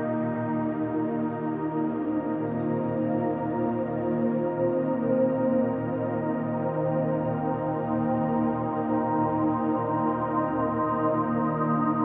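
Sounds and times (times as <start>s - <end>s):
ambient music of soft chords: 0.0s - 12.0s.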